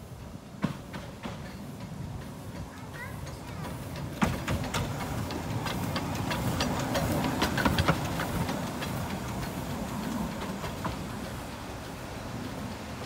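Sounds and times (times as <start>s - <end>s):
locomotive rumble: 0.0s - 13.0s
steam hissing: 0.0s - 13.0s
train wheels clicking and knocking: 0.0s - 13.0s.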